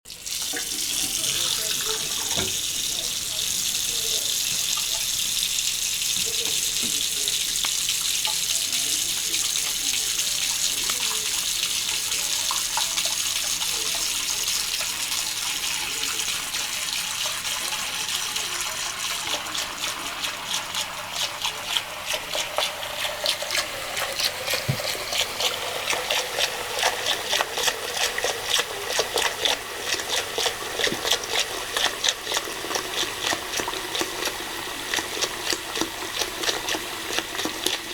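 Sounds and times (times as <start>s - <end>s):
cat lapping water: 0.1s - 37.9s
tap water running into sink: 0.1s - 37.9s.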